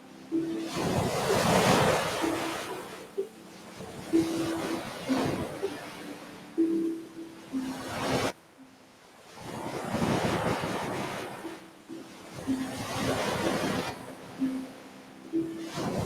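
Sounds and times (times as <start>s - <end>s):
ocean surf breaking on beach: 0.0s - 16.0s.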